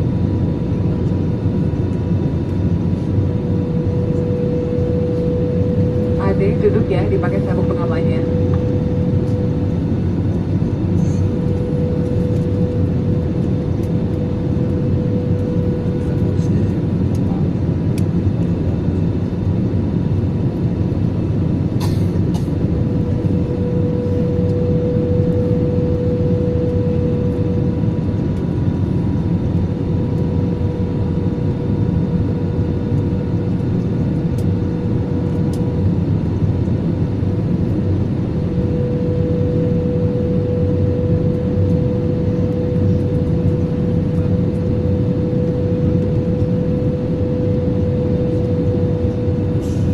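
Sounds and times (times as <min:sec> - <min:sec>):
airliner cabin rumble: 0:00.0 - 0:49.9
steady engine whine: 0:00.0 - 0:49.9.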